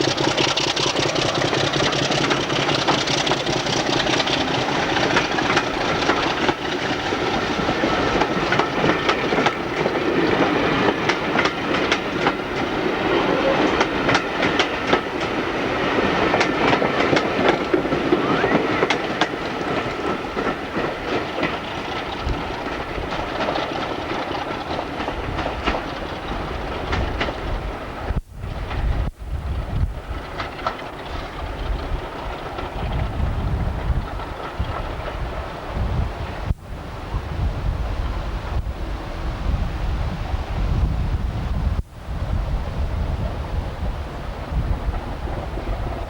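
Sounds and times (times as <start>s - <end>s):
train wheels rumbling on rail: 0.0s - 46.0s
wheels clicking over rail joints: 0.0s - 46.0s.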